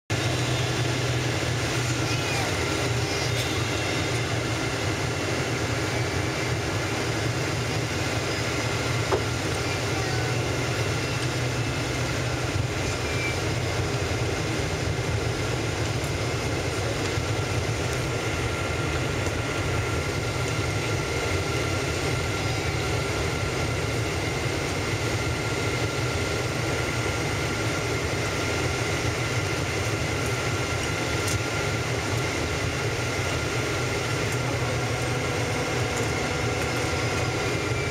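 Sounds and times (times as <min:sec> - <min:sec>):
airliner cabin engine rush: 0:00.1 - 0:37.9.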